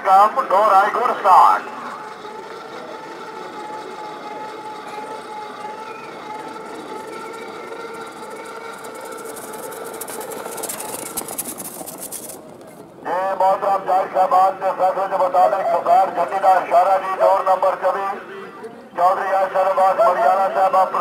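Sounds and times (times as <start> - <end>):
engine running with whine: 0.0 - 21.0.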